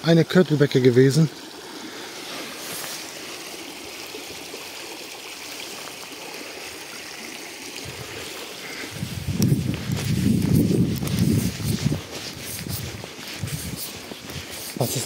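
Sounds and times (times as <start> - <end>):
brook water trickling: 0.0 - 15.0.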